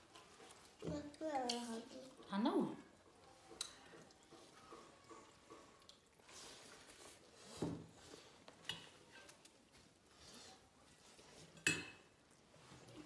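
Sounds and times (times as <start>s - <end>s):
soft squishing of food: 0.0s - 13.0s.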